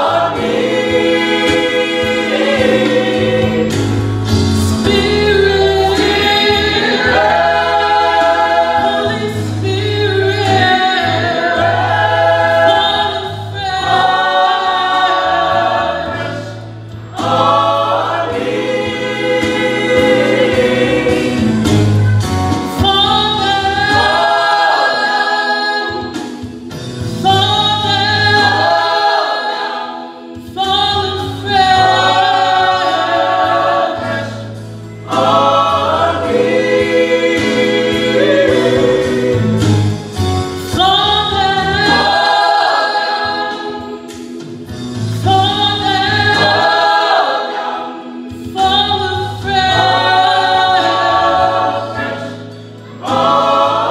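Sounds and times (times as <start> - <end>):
mixed choir singing: 0.0 - 53.9.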